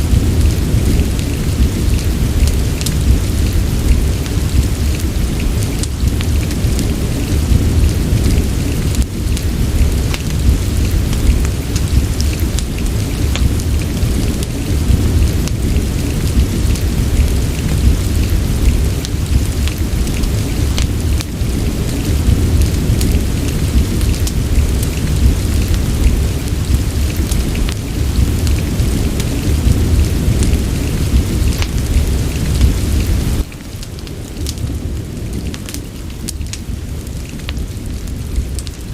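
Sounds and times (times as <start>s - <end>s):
deep low rumble: 0.0s - 38.9s
rain hiss: 0.0s - 38.9s
sharp rain ticks: 0.0s - 38.9s.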